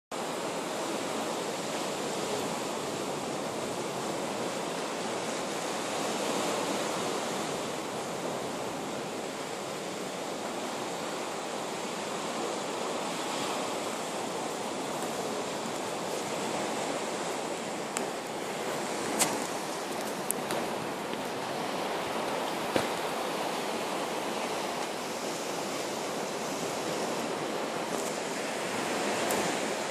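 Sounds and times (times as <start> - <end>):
sea surf rushing on beach: 0.1 - 29.9.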